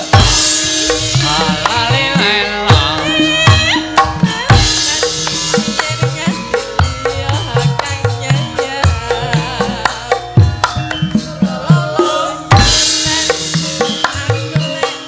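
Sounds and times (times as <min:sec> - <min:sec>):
ringing pitched tones: 0:00.0 - 0:15.0
sliding melodic notes: 0:00.0 - 0:15.0.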